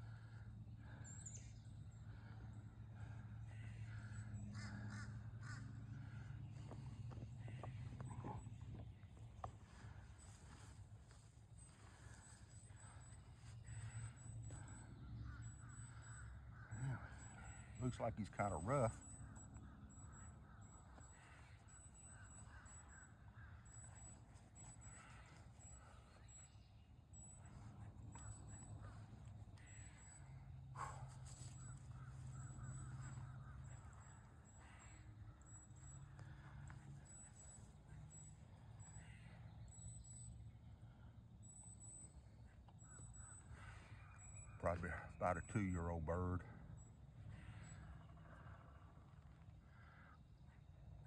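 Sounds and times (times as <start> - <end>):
distant bird calling: 0.0 - 51.0.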